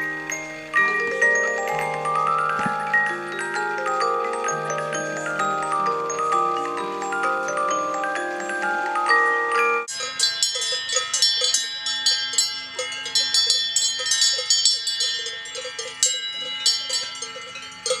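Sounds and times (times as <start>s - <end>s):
cowbells ringing and clanking: 0.0s - 18.0s
music box: 0.0s - 18.0s.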